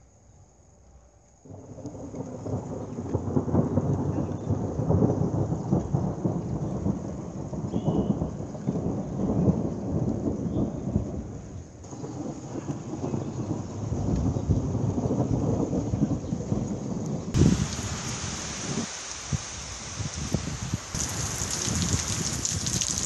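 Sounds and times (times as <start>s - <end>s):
rolling thunder: 1.5s - 23.0s.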